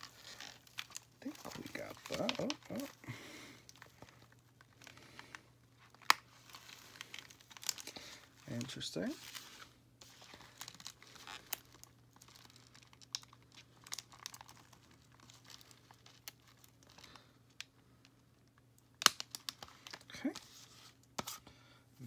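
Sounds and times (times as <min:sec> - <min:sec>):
plastic packaging crinkling: 0:00.0 - 0:21.4.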